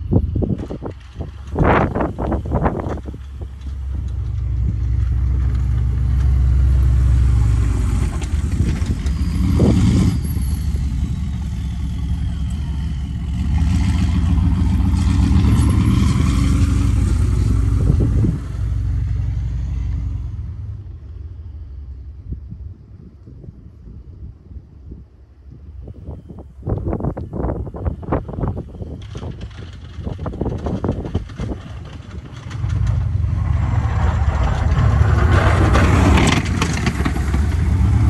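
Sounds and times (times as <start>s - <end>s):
diesel truck engine under load: 0.0s - 23.0s, 25.7s - 38.0s.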